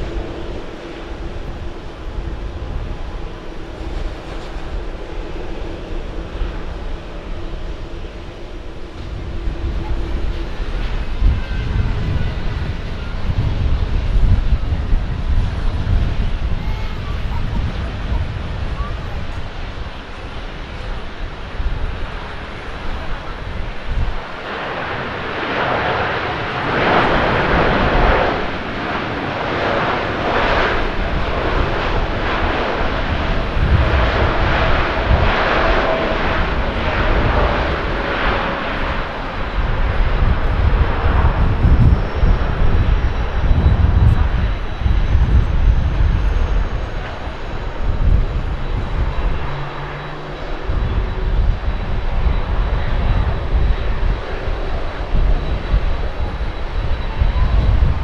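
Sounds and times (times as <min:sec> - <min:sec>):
jet engines roaring: 0:00.0 - 0:58.0
wind rumble on microphone: 0:00.0 - 0:58.0.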